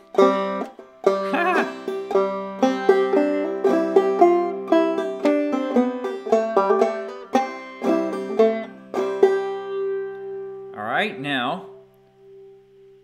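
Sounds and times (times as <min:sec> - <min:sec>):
banjo playing: 0:00.0 - 0:10.8.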